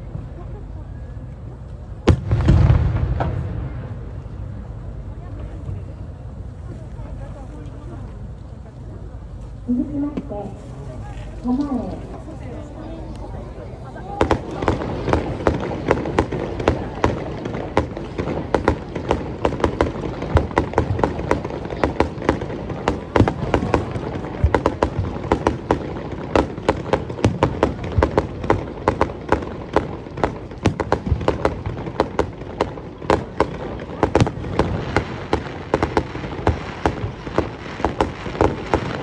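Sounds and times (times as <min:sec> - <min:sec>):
firework bangs and crackles: 0:00.0 - 0:39.0.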